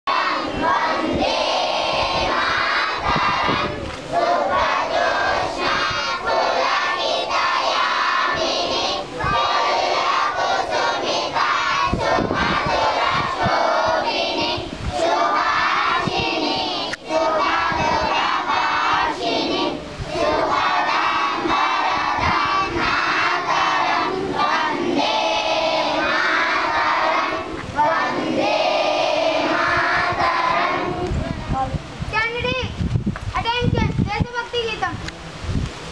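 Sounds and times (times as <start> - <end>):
children's voices in unison: 0.1 - 31.7.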